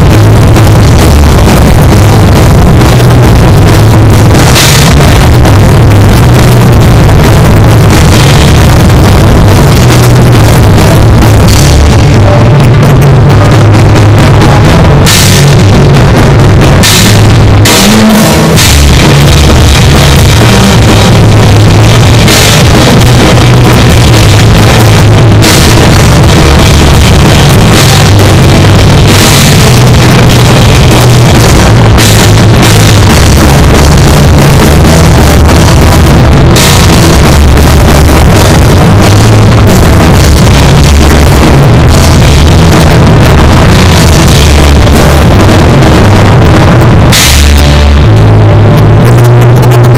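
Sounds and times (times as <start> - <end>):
drums and cymbal crashes: 0.0 - 49.9
punk rock band playing: 0.0 - 49.9.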